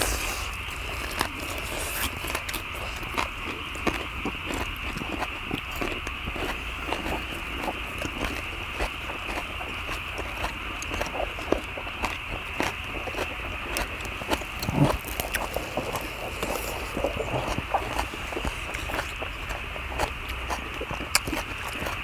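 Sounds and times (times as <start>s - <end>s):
close chewing and mouth sounds: 0.0s - 22.0s.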